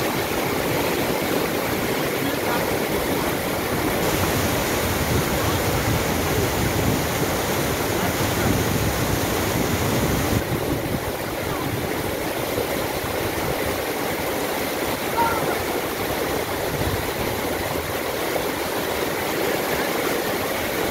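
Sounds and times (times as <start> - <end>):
river water rushing: 0.0 - 20.9.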